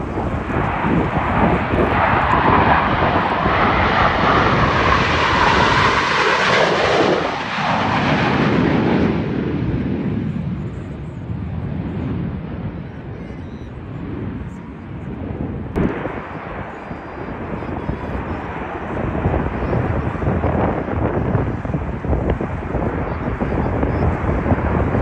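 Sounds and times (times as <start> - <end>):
jet engines flying past: 0.0 - 25.0.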